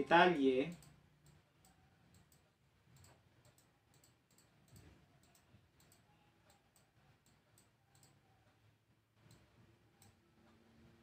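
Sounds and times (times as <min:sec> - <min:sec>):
computer mouse clicks: 0:00.6 - 0:08.6, 0:09.2 - 0:10.9.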